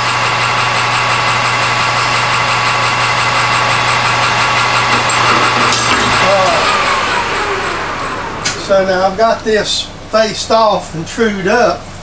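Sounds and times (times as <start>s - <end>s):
metal lathe motor humming: 0.0s - 10.1s.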